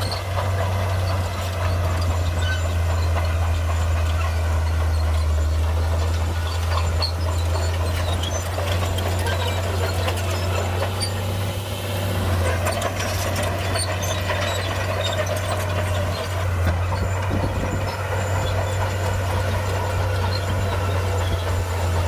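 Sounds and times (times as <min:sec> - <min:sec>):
bulldozer diesel engine drone: 0:00.0 - 0:22.0.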